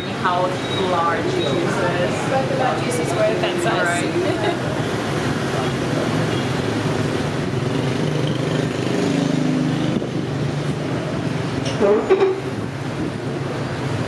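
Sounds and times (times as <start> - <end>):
scooters and car passing: 0.0 - 14.0.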